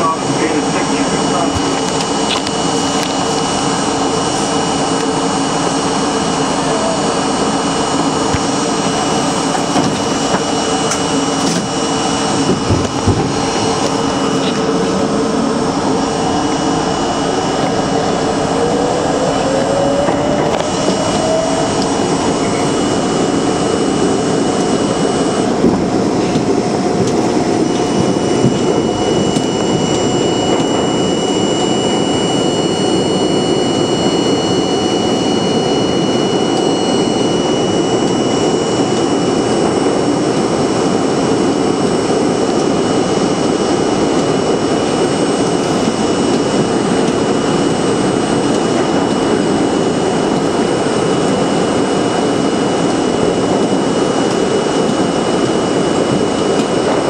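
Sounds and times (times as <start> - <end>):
subway train wheels rumbling: 0.0 - 57.0
thin high whine: 0.0 - 57.0.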